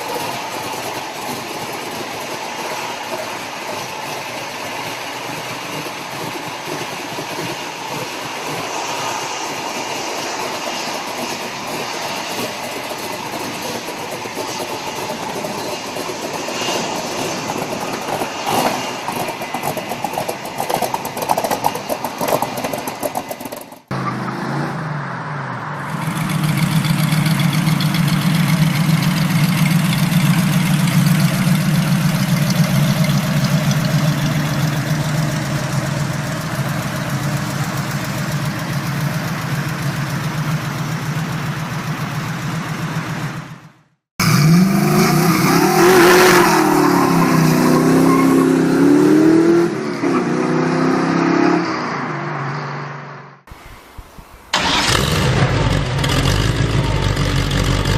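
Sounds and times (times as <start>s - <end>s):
car engine running: 0.0s - 24.5s, 25.7s - 45.2s, 53.8s - 57.9s
engine revving: 4.8s - 23.2s, 23.9s - 41.2s, 44.2s - 53.4s, 54.5s - 57.9s.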